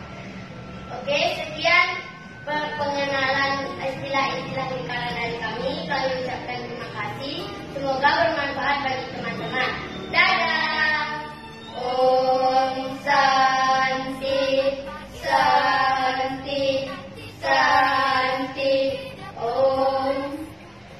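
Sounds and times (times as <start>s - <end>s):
girls singing in unison: 2.2s - 20.9s.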